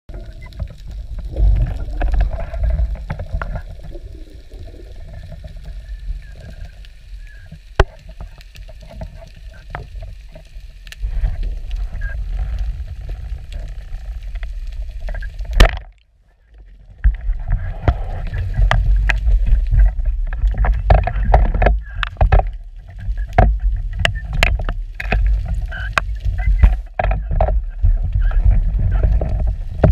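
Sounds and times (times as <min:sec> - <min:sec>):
underwater water rumble: 0:00.1 - 0:29.9.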